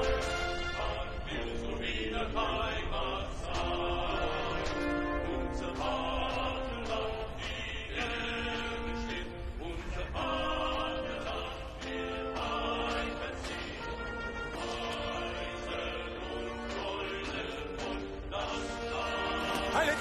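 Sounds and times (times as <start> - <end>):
choir singing held chords: 0.0 - 20.0
steady low rumble: 0.0 - 20.0.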